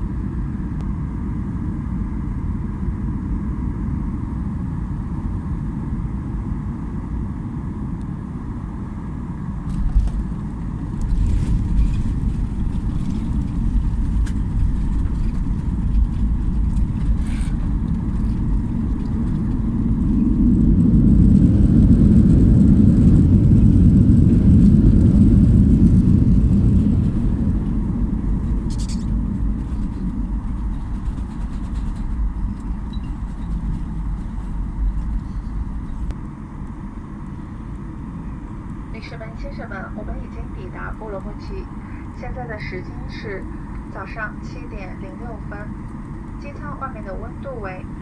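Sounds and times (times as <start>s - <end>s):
airplane cabin rumble: 0.0s - 48.0s.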